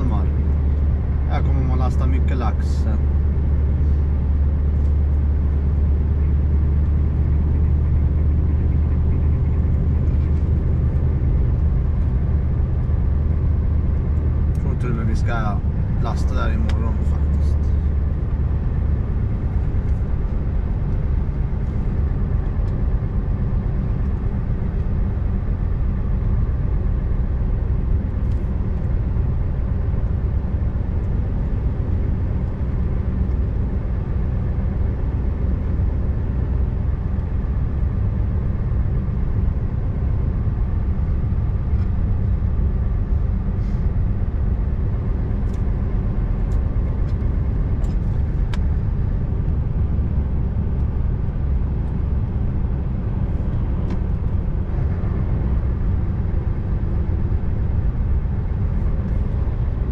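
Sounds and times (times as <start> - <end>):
road noise: 0.0 - 59.9
truck diesel engine running: 0.0 - 59.9.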